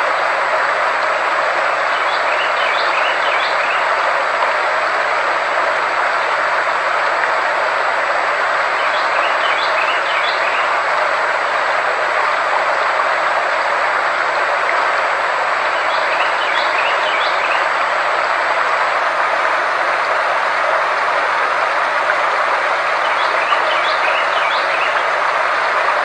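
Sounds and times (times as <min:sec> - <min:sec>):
steady hiss-like noise: 0:00.0 - 0:26.0.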